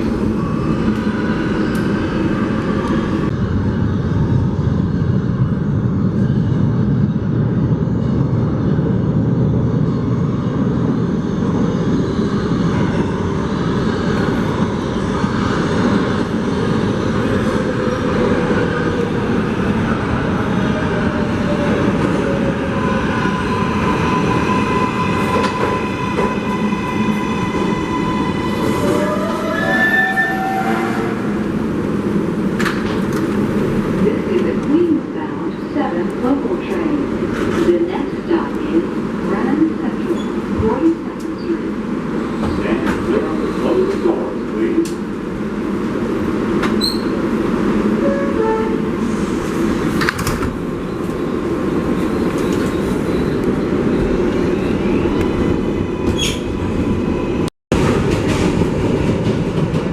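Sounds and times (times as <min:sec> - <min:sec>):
subway train rail rumble: 0:00.0 - 0:59.9.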